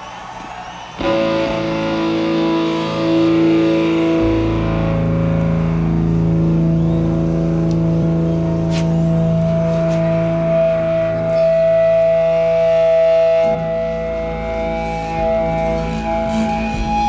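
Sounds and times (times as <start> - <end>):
distorted electric guitar chord: 1.0 - 17.0.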